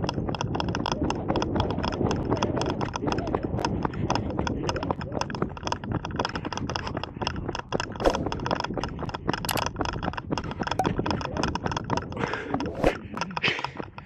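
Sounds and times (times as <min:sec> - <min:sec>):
horse hooves galloping: 0:00.0 - 0:14.0.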